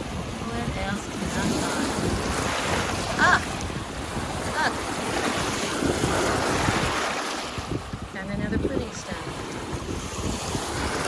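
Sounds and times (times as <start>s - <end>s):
waves washing on shore: 0.0s - 11.0s
wind buffeting microphone: 0.0s - 11.0s.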